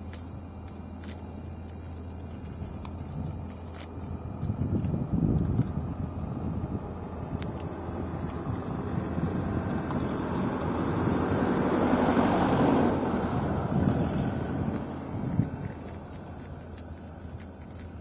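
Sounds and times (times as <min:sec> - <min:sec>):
steady low rumble: 0:00.0 - 0:12.0, 0:12.8 - 0:18.0
passing engine: 0:01.9 - 0:17.5.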